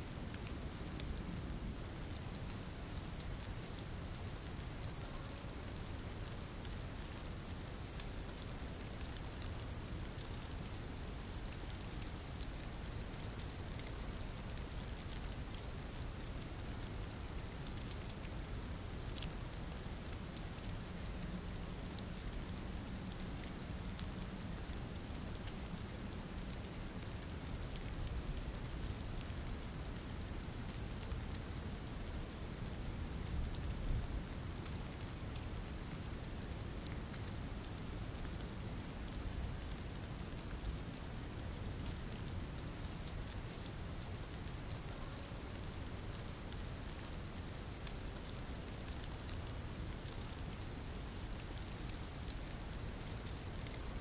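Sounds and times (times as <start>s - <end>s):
rain falling: 0.1s - 54.0s.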